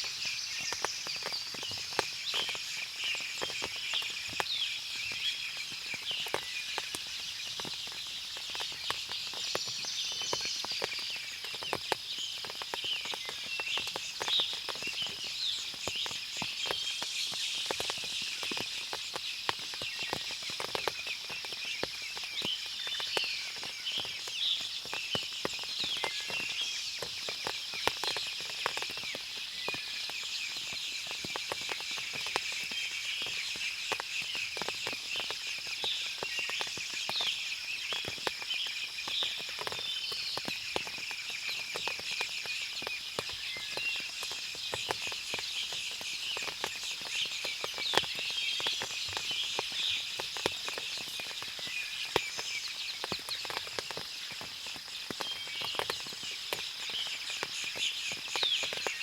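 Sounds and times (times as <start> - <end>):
birds chirping: 0.0 - 59.0
water dripping: 0.0 - 59.0.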